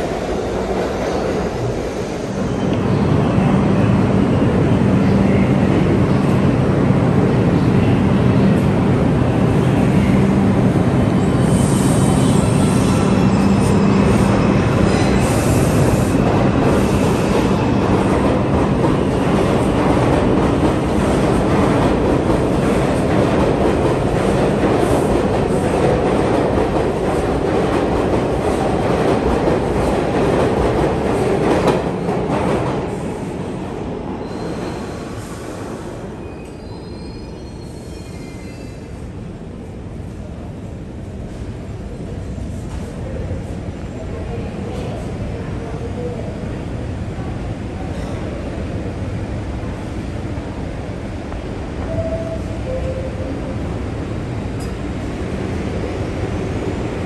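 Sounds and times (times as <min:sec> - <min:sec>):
subway train passing: 0:00.0 - 0:57.0.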